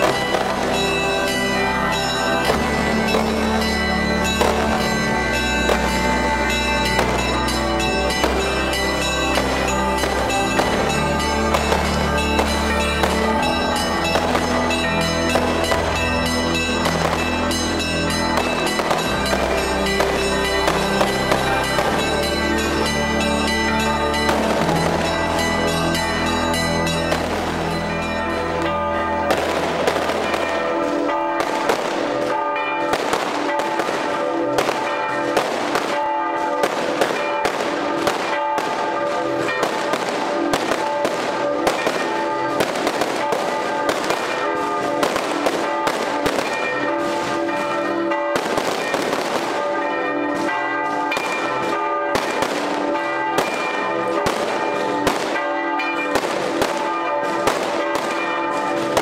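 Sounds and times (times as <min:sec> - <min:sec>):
church bells ringing: 0:00.0 - 0:59.0
firecrackers banging: 0:00.0 - 0:59.0.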